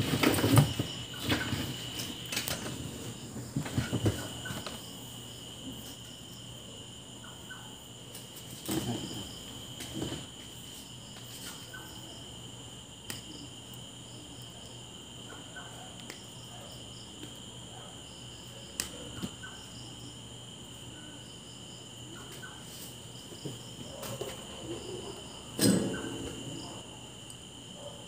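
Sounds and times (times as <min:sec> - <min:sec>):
insects chirping in bursts: 0:00.0 - 0:28.0.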